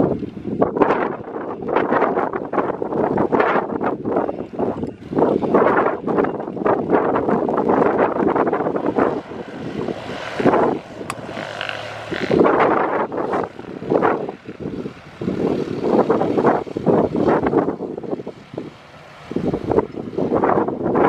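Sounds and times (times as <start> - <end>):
propeller airplane engines taxiing: 0.0 - 21.0
wind buffeting microphone: 0.0 - 21.0.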